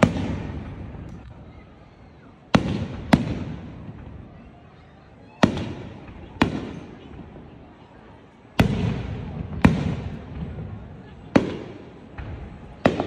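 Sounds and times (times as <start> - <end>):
firework bangs: 0.0 - 1.5, 2.4 - 4.5, 5.1 - 7.8, 8.6 - 13.0.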